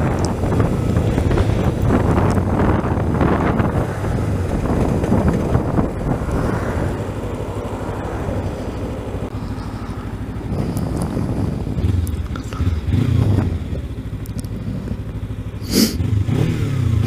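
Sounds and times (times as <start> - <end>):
wind buffeting microphone: 0.0 - 14.2
motorcycle engine running: 0.0 - 17.0.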